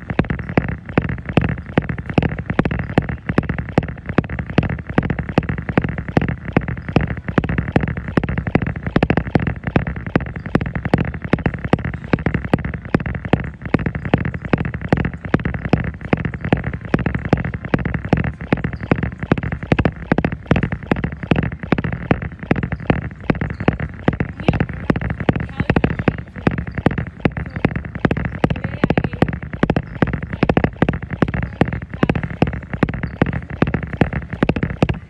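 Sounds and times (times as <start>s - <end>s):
footfalls thumping on treadmill: 0.0s - 35.0s
treadmill running hum: 0.0s - 35.0s.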